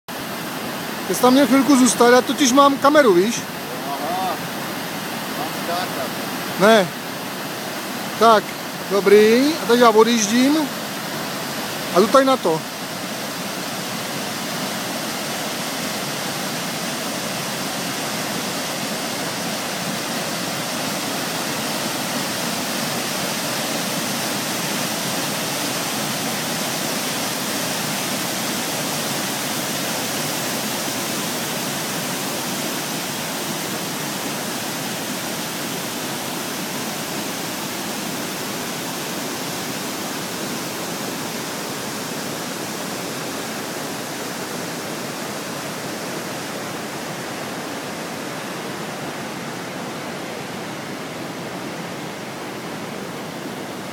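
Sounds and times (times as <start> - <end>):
large waterfall rushing: 0.1 - 53.9.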